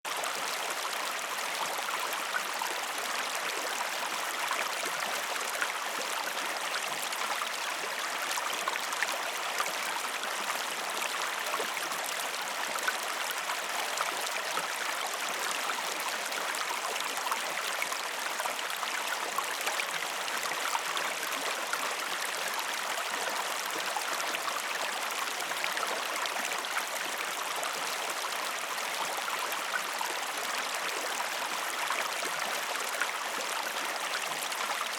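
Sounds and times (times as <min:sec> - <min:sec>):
flowing river water: 0:00.1 - 0:34.9.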